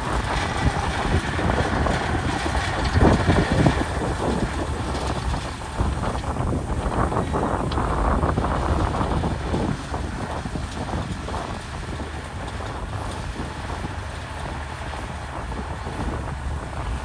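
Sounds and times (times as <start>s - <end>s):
bulldozer diesel engine running: 0.0s - 17.0s
wind buffeting microphone: 0.0s - 17.0s.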